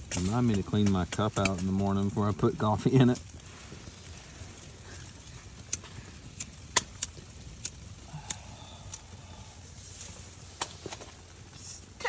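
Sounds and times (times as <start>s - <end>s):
fire crackling: 0.0s - 12.0s
low steady rumble: 0.0s - 12.0s.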